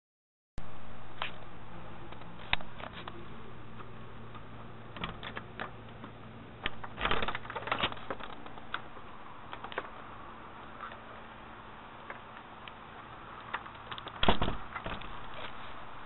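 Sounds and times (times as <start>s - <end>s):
faint hum: 0.6s - 16.0s.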